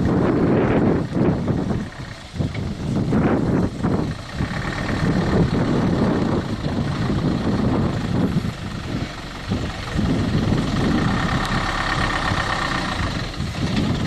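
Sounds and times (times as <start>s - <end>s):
heavy truck engine under load: 0.0s - 14.0s.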